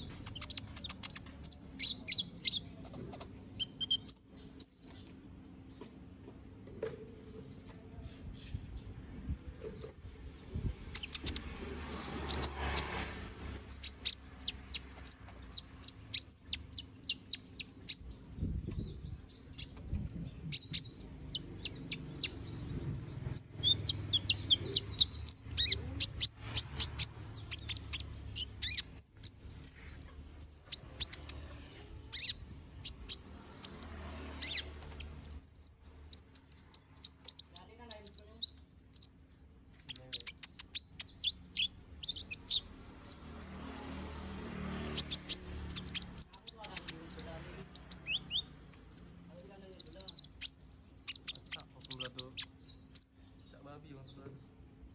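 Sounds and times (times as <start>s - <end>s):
small bird singing: 0.0s - 6.0s, 6.8s - 54.9s.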